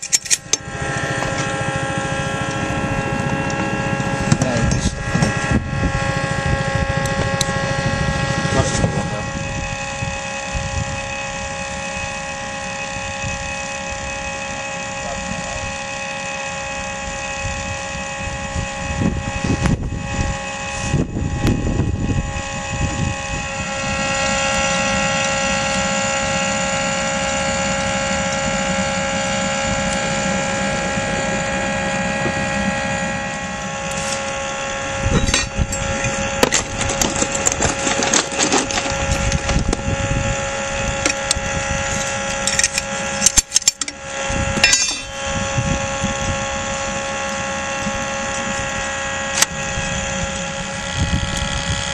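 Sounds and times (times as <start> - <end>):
electric blower fan whine: 0.0 - 51.9.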